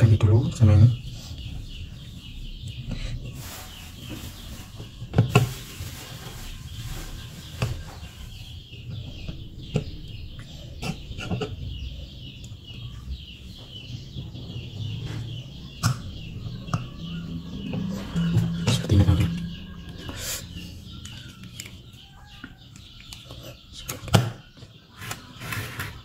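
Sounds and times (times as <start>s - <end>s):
birds clucking: 0.0s - 26.0s.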